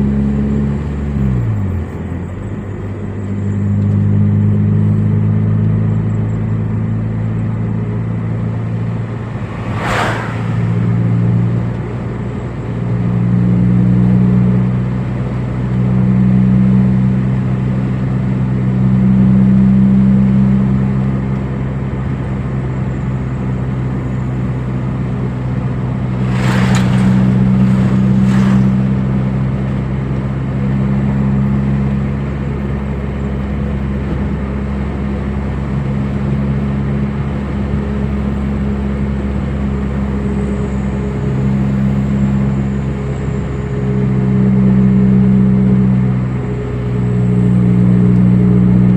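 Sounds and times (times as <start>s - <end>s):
car engine running under load: 0.0s - 48.9s.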